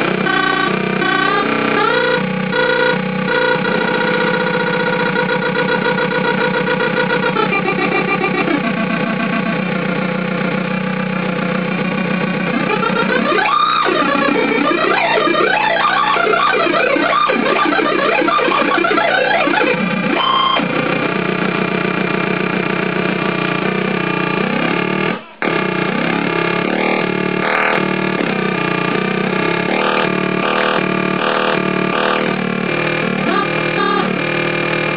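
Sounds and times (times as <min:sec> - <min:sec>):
synthesizer drone: 0:00.0 - 0:34.9.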